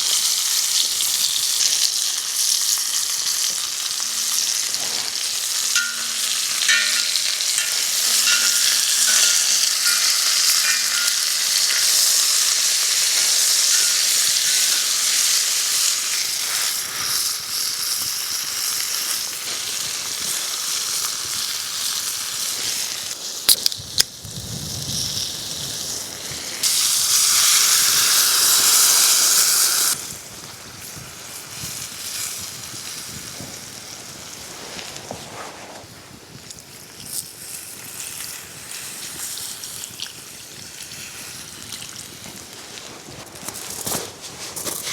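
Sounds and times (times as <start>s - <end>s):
food sizzling in a pan: 0.0s - 23.5s, 24.2s - 35.2s, 35.8s - 43.1s.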